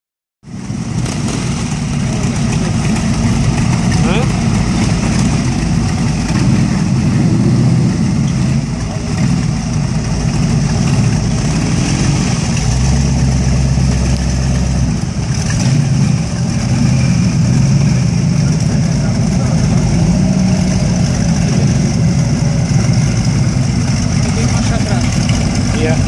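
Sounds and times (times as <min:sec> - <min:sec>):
motorcycle engine idling: 0:00.5 - 0:26.0.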